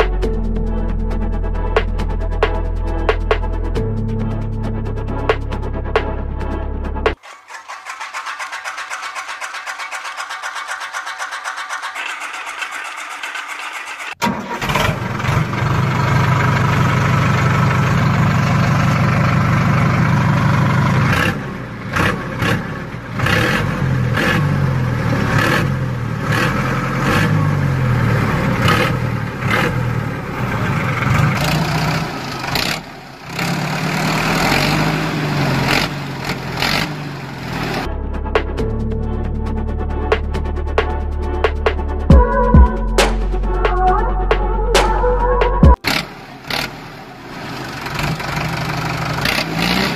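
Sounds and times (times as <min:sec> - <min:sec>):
tractor engine revving: 0:07.0 - 0:38.7, 0:41.6 - 0:49.9.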